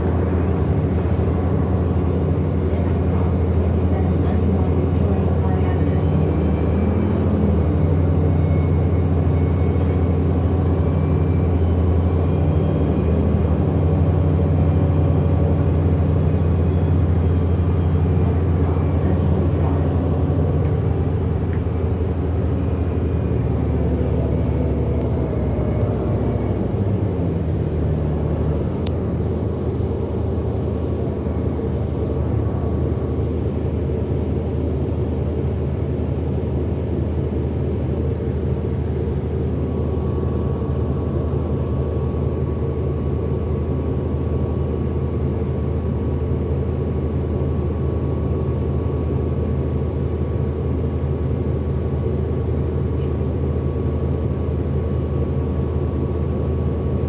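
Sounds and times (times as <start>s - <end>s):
bus drive system droning: 0.0s - 57.0s.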